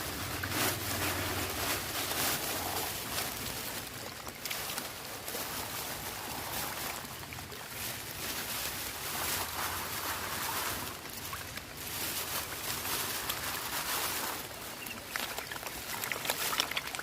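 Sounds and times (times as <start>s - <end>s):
gusty outdoor hiss: 0.0s - 17.0s.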